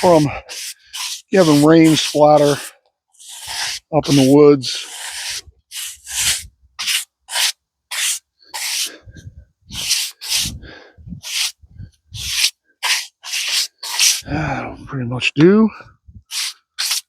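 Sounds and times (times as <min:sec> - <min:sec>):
brush scrubbing a log: 0:00.0 - 0:09.0, 0:09.7 - 0:14.2, 0:16.3 - 0:17.0.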